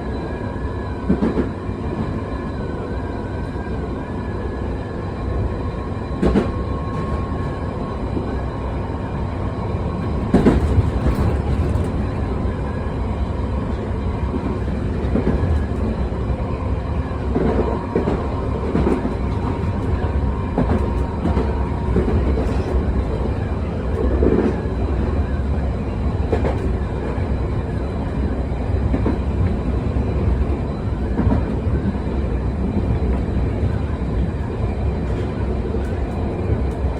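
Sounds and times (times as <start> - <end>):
underground train rumbling: 0.0 - 36.9.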